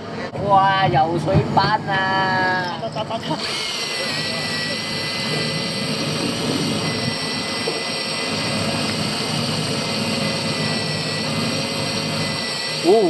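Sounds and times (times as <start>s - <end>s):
boat engine droning: 0.0s - 13.0s
thin high whine: 0.0s - 13.0s.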